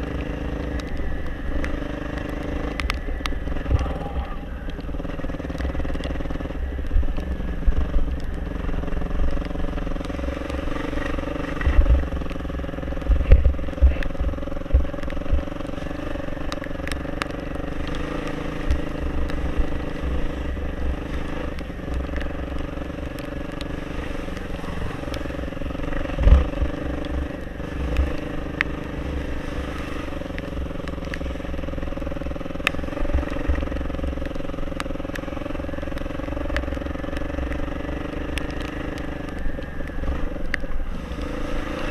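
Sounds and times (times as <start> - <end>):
dirt bike engine: 0.0 - 41.9.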